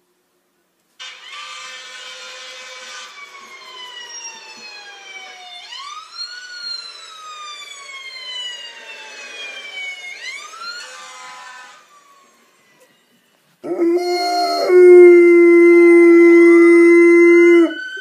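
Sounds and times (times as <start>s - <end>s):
fire truck siren wailing: 2.8s - 18.0s.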